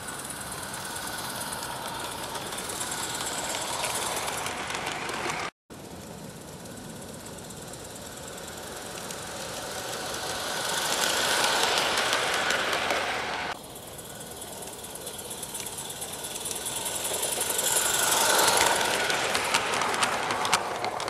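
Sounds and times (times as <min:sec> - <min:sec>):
steam hiss: 0:00.0 - 0:05.5, 0:06.6 - 0:21.0
steam locomotive chuffing: 0:00.0 - 0:21.0
wheels clicking over track: 0:00.0 - 0:21.0.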